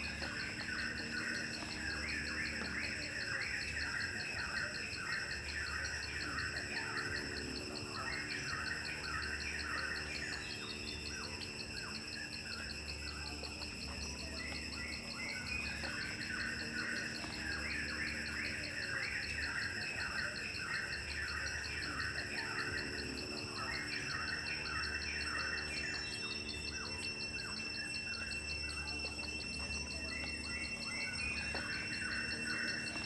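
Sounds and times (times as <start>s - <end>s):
birds chirping: 0.0s - 33.0s
insects trilling: 0.0s - 33.0s.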